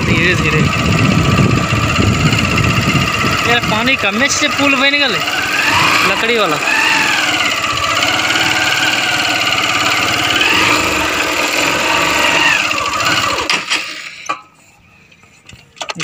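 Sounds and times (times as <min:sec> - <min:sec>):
motorbike engine labouring: 0:00.0 - 0:14.3.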